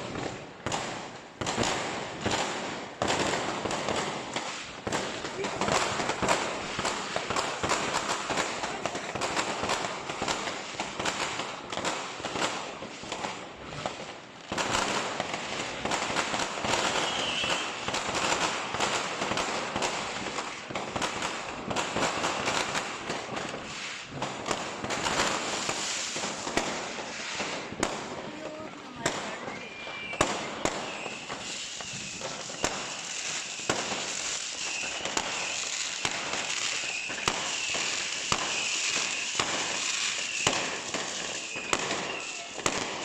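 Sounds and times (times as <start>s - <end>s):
fireworks crackling and banging: 0.0s - 43.0s.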